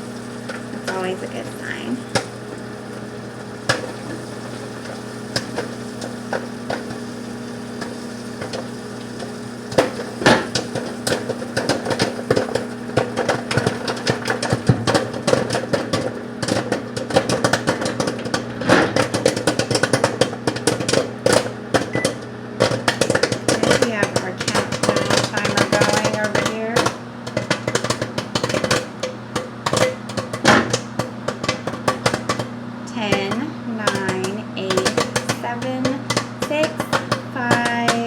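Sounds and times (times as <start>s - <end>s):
microwave oven humming: 0.0s - 38.0s
popcorn popping: 0.0s - 38.0s.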